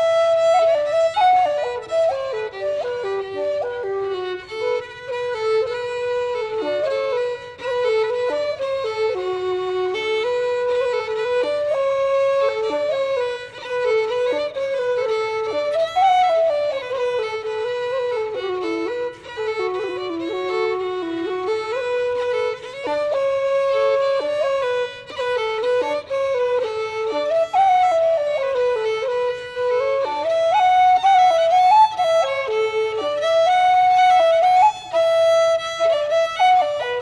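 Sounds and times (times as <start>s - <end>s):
violin: 0.0s - 37.0s
wooden flute: 0.0s - 37.0s.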